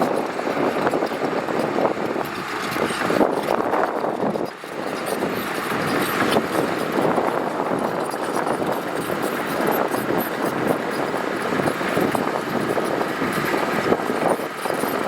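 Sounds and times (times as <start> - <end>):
heavy machinery grinding gravel: 0.0 - 15.0.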